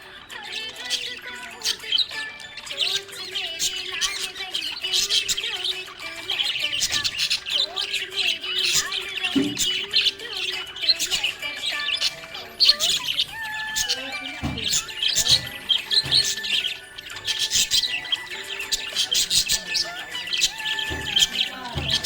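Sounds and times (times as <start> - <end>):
budgerigar chirping and squawking: 0.0 - 22.0.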